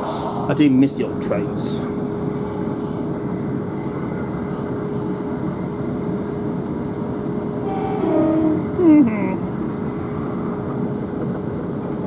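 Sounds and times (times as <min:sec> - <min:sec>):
train running noise inside carriage: 0:00.0 - 0:12.0.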